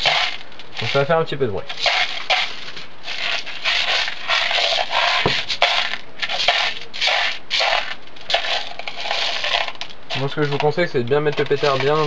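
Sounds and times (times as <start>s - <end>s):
plastic pellets rattling in a pot: 0.0s - 12.0s.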